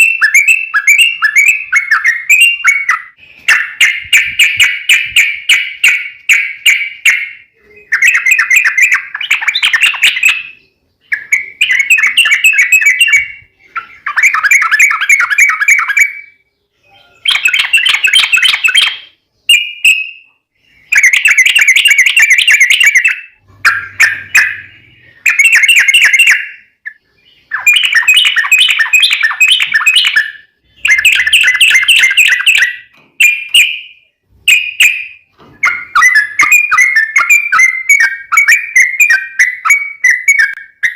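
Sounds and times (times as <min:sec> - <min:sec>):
bird chattering song: 0:00.0 - 0:40.9.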